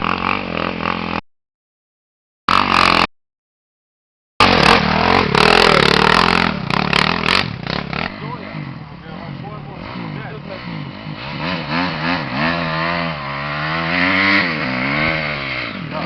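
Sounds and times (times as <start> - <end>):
motocross bike engine revving: 0.0 - 1.2, 2.5 - 3.1, 4.4 - 16.0.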